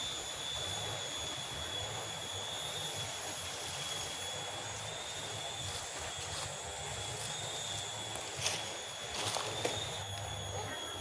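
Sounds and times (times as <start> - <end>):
high-pitched drone: 0.0 - 11.0.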